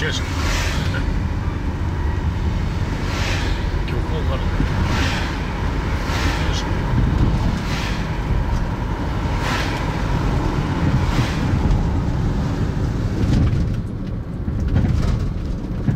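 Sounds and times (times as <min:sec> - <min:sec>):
car cabin road rumble: 0:00.0 - 0:15.9
passing cars rushing: 0:00.0 - 0:15.9.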